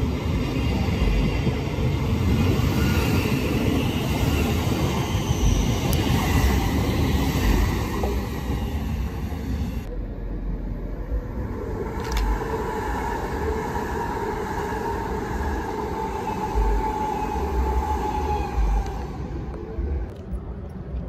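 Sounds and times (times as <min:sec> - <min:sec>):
passing train whine: 0:00.0 - 0:21.0.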